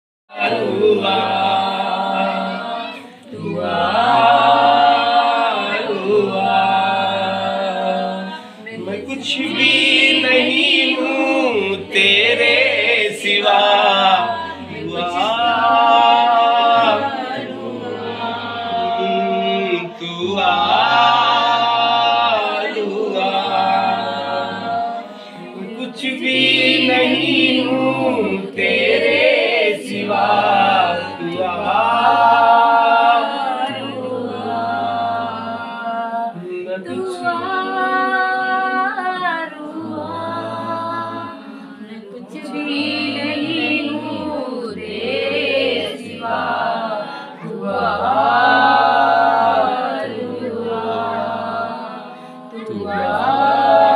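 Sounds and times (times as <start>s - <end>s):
voices singing together: 0.3s - 53.9s.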